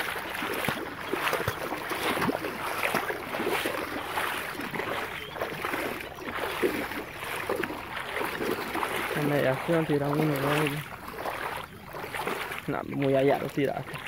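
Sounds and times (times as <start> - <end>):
water sloshing and lapping: 0.0 - 14.0.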